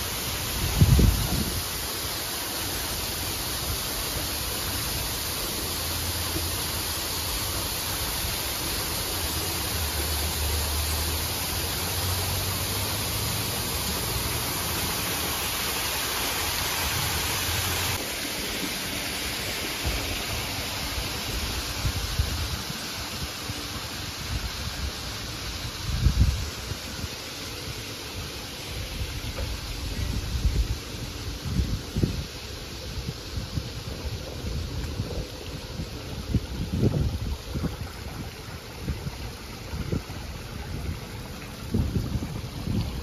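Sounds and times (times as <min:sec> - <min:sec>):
waterfall splashing into pond: 0:00.0 - 0:43.0.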